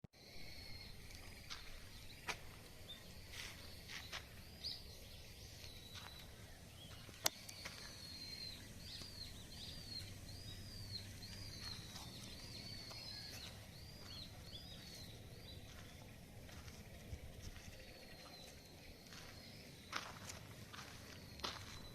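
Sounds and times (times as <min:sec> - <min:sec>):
outdoor background noise: 0:00.2 - 0:21.9
small bird chirping: 0:00.2 - 0:21.9.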